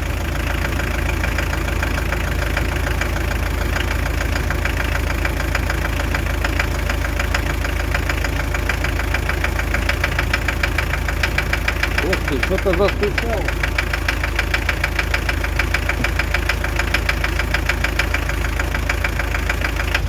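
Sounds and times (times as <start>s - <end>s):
diesel engine idling with knock: 0.0s - 20.0s.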